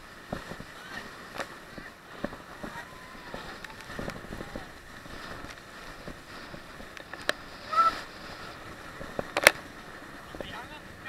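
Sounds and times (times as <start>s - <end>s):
rushing wind: 0.0s - 11.0s.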